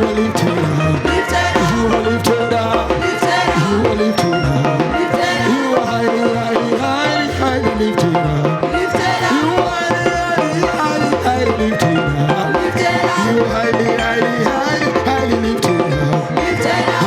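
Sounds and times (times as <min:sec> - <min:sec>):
voices singing: 0:00.0 - 0:17.0
worship band playing: 0:00.0 - 0:17.0.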